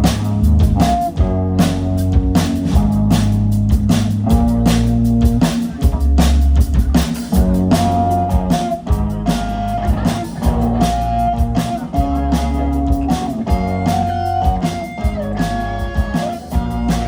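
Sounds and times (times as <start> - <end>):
bass line: 0.0 - 17.0
drum beat: 0.0 - 17.0
electric guitar bending notes: 0.0 - 17.0.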